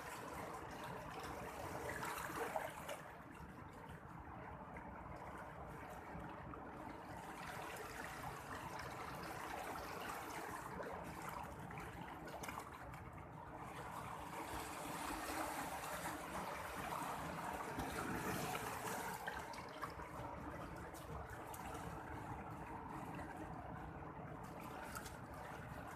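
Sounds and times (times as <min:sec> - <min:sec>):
sea water washing on shore: 0:00.0 - 0:25.9.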